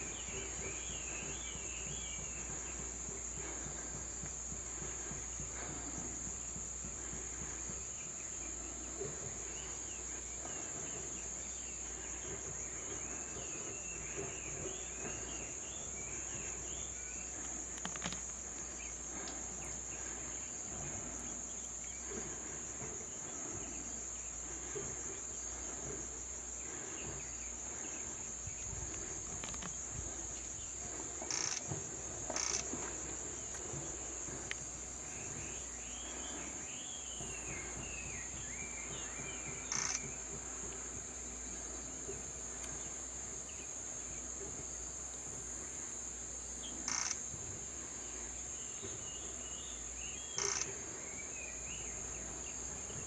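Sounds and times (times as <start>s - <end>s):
high-pitched insect drone: 0.0s - 44.4s, 45.0s - 49.5s, 50.1s - 53.0s
faint chirps: 0.0s - 53.0s.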